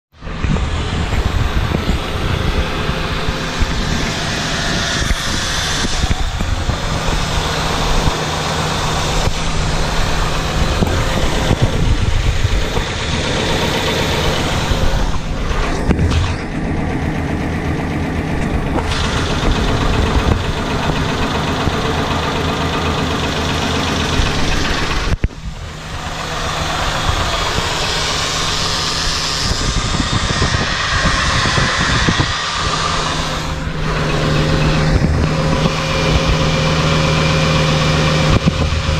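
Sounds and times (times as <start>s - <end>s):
truck engine running: 0.1s - 38.9s
engine ticking knock: 0.2s - 38.9s.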